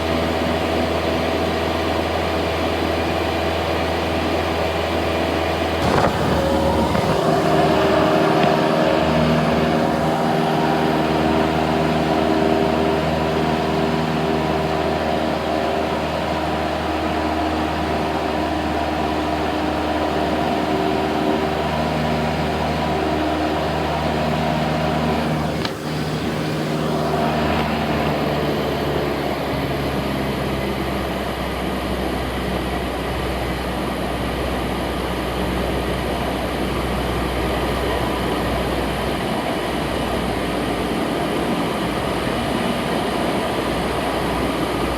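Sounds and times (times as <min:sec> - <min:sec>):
propeller plane engine droning: 0:00.0 - 0:44.9.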